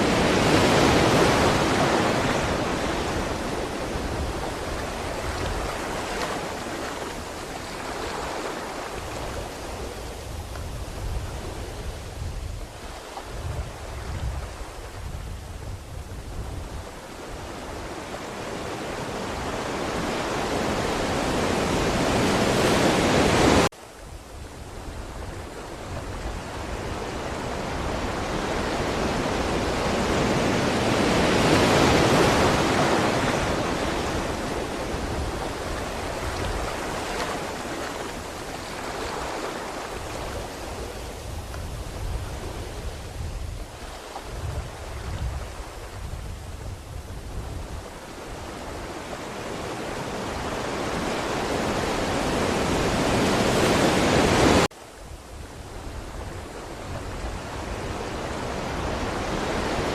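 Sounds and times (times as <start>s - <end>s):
ocean waves breaking: 0.0s - 23.7s, 24.6s - 54.8s, 55.9s - 59.9s.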